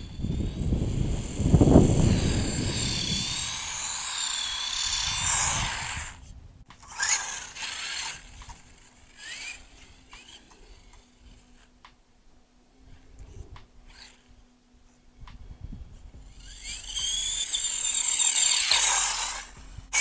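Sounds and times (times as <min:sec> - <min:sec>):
toy car motor whine: 0:00.0 - 0:11.7, 0:13.2 - 0:14.3, 0:16.2 - 0:20.0.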